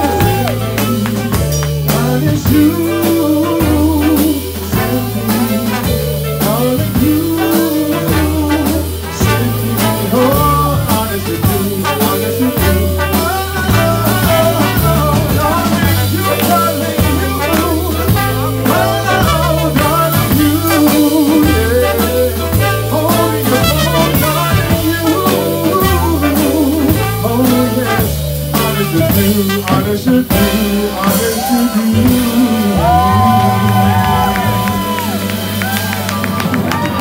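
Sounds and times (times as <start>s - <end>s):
person singing: 0.0s - 36.1s
drum kit keeping time: 0.0s - 37.0s
upright bass line: 0.0s - 37.0s.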